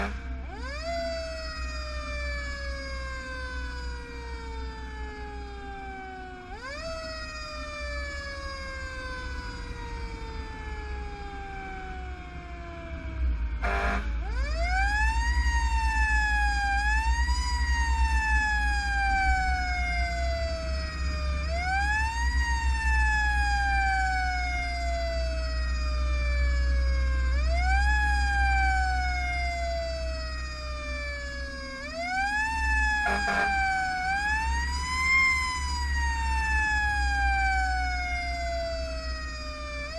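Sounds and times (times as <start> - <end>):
fire engine siren wailing: 0.0 - 39.9
truck engine rumble: 0.0 - 39.9.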